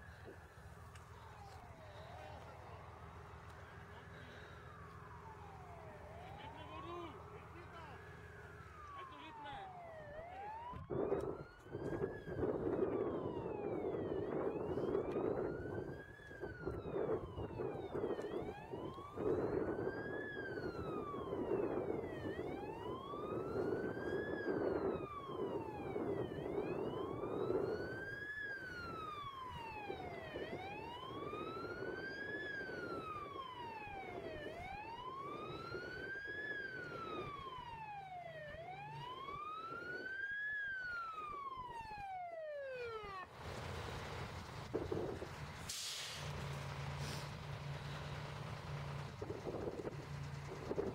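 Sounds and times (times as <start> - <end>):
fire engine siren wailing: 0.0 - 50.9.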